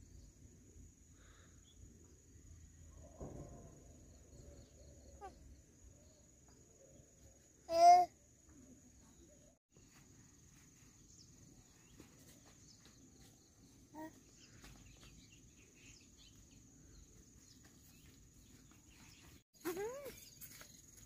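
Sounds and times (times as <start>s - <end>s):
faint bird chirps: 1.1s - 21.0s.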